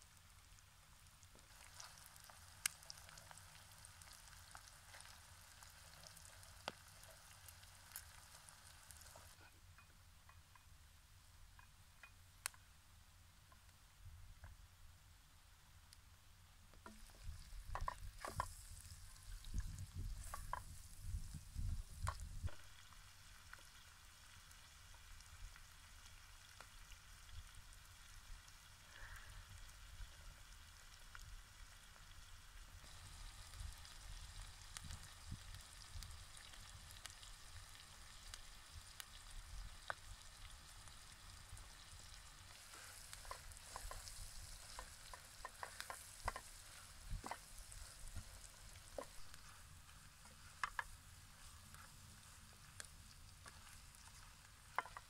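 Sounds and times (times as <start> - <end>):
potatoes sizzling: 0.0 - 9.5, 16.8 - 55.0.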